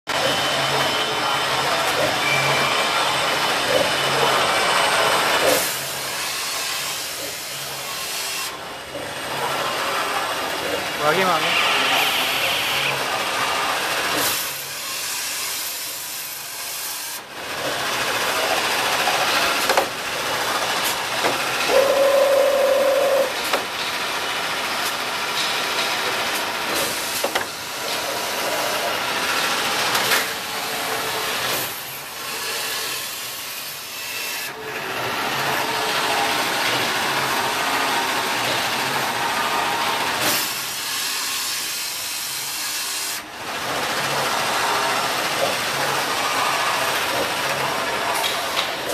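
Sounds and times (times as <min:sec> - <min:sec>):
steady machine whine: 0:00.1 - 0:48.9.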